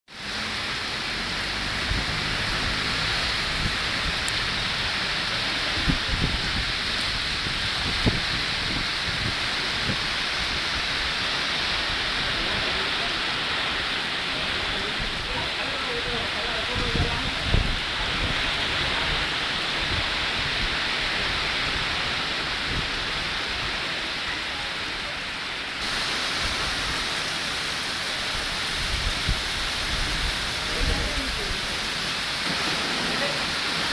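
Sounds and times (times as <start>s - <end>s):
heavy rain pouring: 0.1s - 33.9s
wind: 0.1s - 33.9s.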